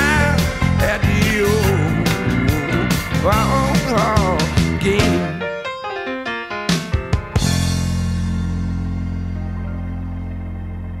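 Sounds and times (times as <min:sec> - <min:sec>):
background music held chord: 0:00.0 - 0:05.9, 0:06.8 - 0:11.0.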